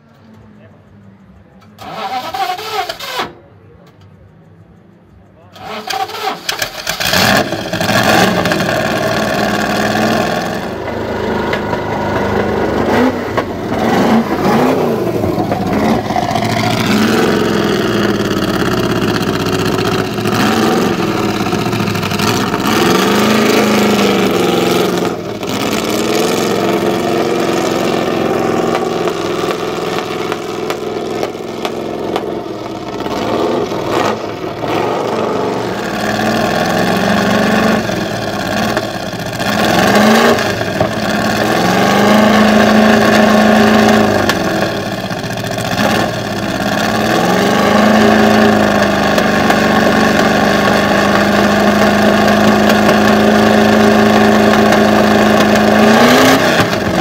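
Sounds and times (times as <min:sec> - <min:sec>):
car engine revving and idling: 0:05.2 - 0:57.0.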